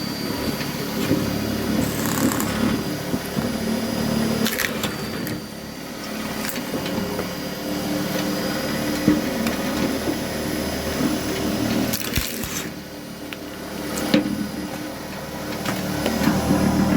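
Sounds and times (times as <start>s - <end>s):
log splitter motor humming: 0.0s - 16.9s.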